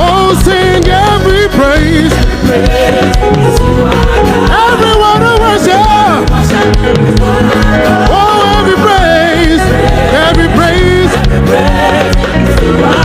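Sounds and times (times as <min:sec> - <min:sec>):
gospel choir and band: 0:00.0 - 0:13.0.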